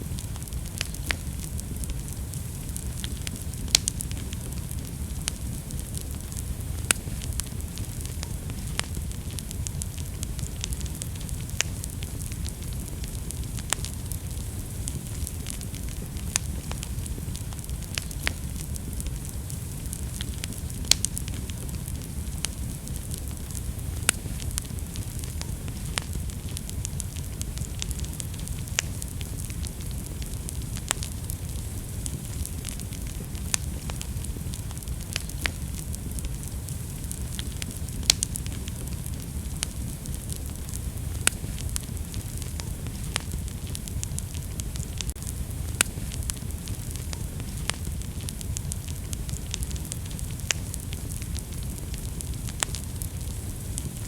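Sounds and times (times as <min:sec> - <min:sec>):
fire crackles and pops: 0:00.0 - 0:54.0
wood fire rumble: 0:00.0 - 0:54.0.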